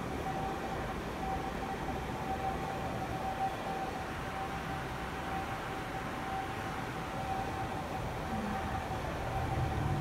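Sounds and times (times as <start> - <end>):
factory machinery hum: 0.0 - 10.0
high machine whine: 0.0 - 10.0.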